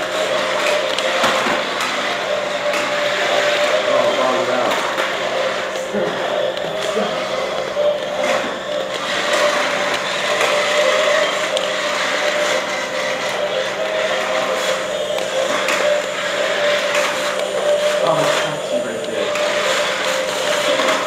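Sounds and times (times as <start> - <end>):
toy motors whirring: 0.0 - 21.0.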